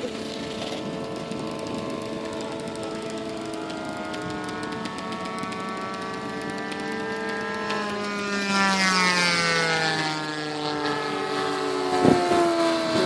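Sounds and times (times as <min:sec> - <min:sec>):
model airplane engines flying past: 0:00.0 - 0:13.0.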